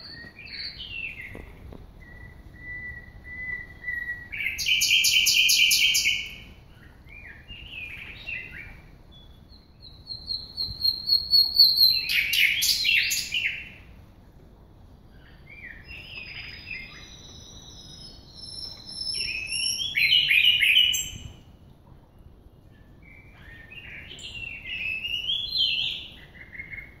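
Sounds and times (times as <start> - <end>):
songbird singing: 0.0 - 14.0, 14.8 - 27.0.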